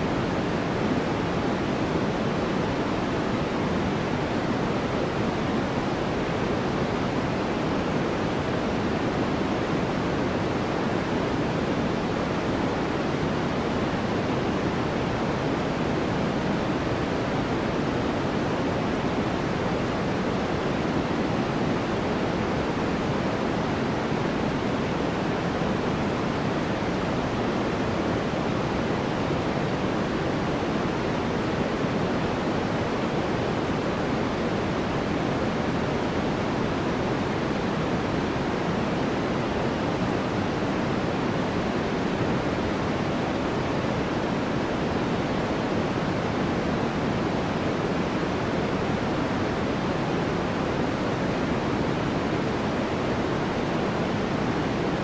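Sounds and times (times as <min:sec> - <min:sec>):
steady white noise: 0:00.0 - 0:55.0.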